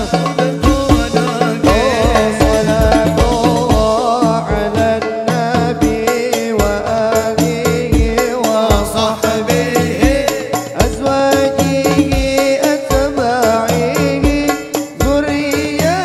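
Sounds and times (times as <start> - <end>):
bass drum thumps: 0.0 - 5.0, 5.6 - 16.0
drum slaps and jingles: 0.0 - 16.0
frame drums: 0.0 - 16.0
men singing through microphones: 0.0 - 16.0.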